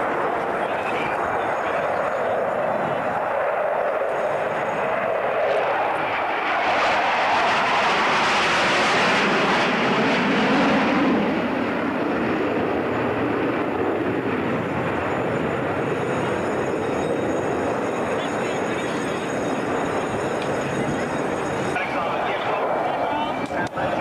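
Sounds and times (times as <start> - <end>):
fighter jets passing overhead: 0.0 - 24.0.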